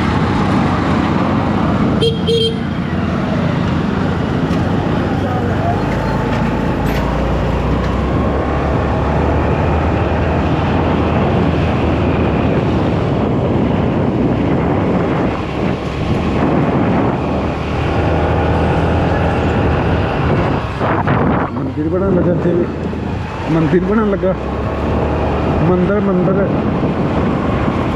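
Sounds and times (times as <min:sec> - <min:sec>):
motorcycle engine and road noise: 0:00.0 - 0:27.9
wind rushing on microphone: 0:00.0 - 0:27.9.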